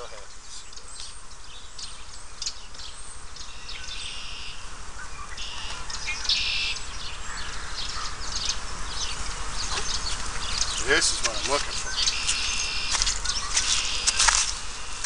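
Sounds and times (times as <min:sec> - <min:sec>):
bird trills: 0:00.0 - 0:15.0
birds chirping and singing: 0:00.0 - 0:15.0.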